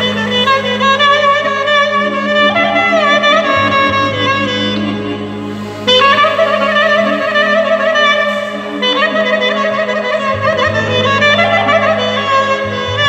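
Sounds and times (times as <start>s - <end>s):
clarinet melody: 0.0s - 13.0s
low held accompaniment: 0.0s - 13.0s.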